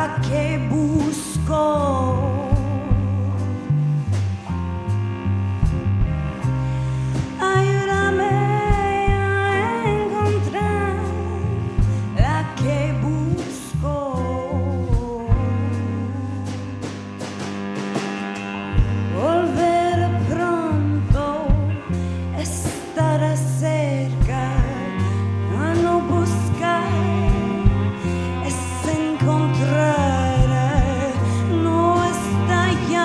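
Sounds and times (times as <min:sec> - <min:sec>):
drums keeping a beat: 0:00.0 - 0:23.3, 0:24.1 - 0:33.0
live band playing: 0:00.0 - 0:33.0.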